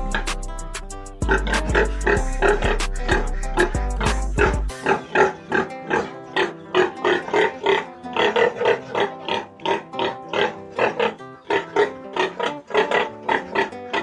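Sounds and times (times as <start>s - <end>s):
pigs grunting: 0.0s - 0.4s, 1.2s - 14.0s
plucked background music: 0.0s - 14.0s.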